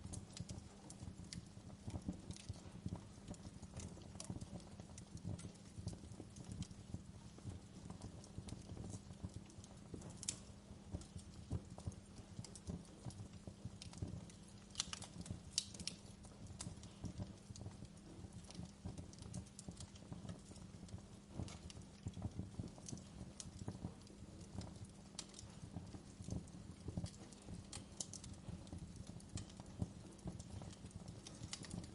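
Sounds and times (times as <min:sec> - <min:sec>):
fire snaps and pops: 0:00.0 - 0:31.9
wood fire crackling: 0:00.0 - 0:31.9.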